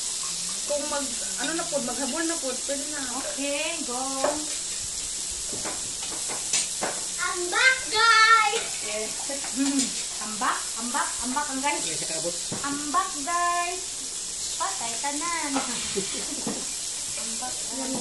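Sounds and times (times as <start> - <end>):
meat sizzling on a grill plate: 0.0 - 18.0.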